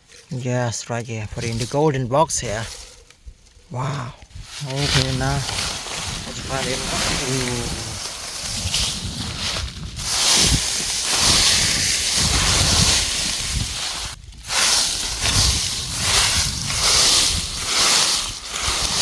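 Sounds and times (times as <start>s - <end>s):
dry corn litter rustling and crackling: 0.0s - 19.0s.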